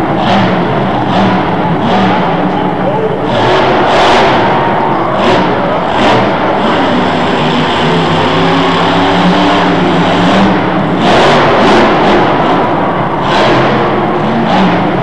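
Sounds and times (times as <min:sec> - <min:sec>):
loud truck engine revving: 0:00.0 - 0:15.0.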